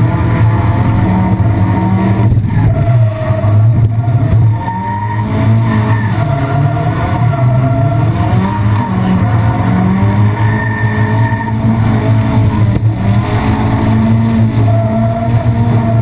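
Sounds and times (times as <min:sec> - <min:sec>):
car engine at high revs: 0:00.0 - 0:16.0
tyres spinning and skidding: 0:00.0 - 0:16.0.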